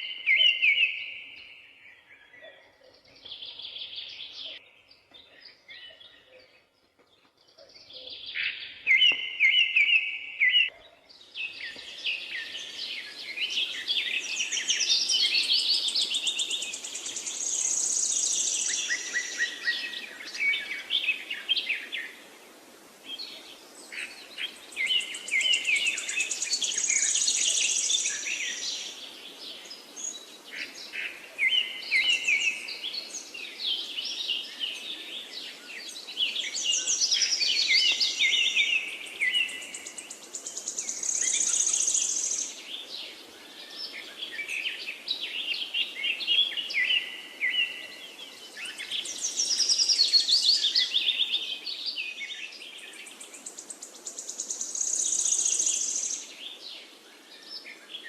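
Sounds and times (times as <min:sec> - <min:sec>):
songbirds singing: 0:00.0 - 0:58.0
background hiss: 0:03.0 - 0:58.0.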